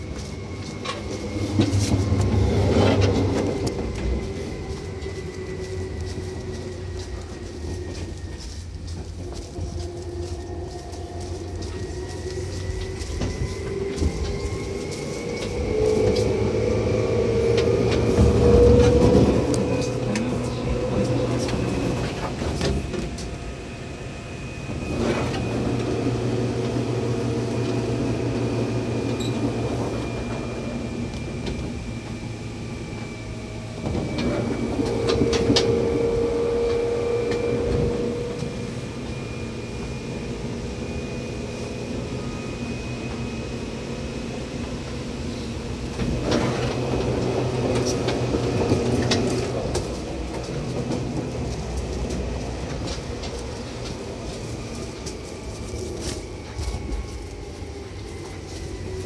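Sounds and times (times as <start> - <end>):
wheels clicking on rail joints: 0.0 - 23.5, 24.7 - 41.0, 42.6 - 59.0
train rumble and motor hum: 0.0 - 59.0.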